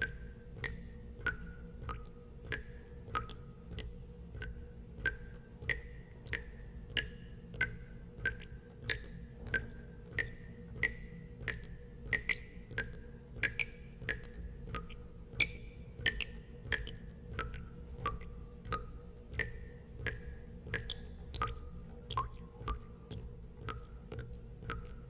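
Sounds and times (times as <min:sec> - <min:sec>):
water drops plinking into water: 0:00.0 - 0:25.0.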